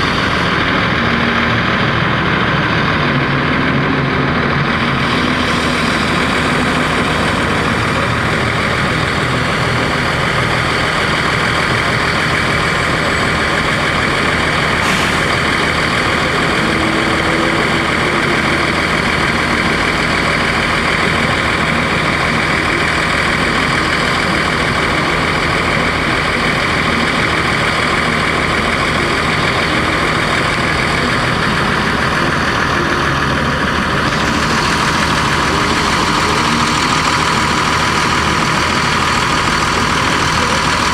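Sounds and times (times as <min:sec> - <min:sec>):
diesel bus engine running: 0:00.0 - 0:40.9.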